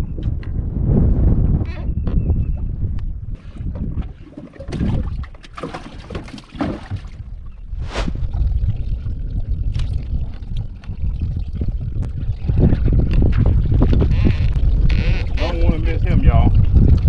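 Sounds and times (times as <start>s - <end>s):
wind rumbling on microphone: 0.0s - 6.2s, 6.8s - 17.0s.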